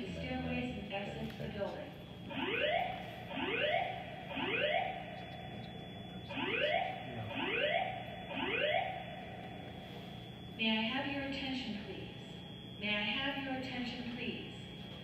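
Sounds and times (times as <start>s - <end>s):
fire alarm whoop tone: 0.6s - 15.0s.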